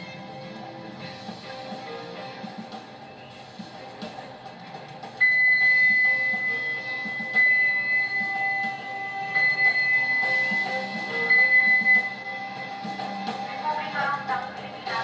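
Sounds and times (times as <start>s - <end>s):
band music: 0.0s - 15.0s.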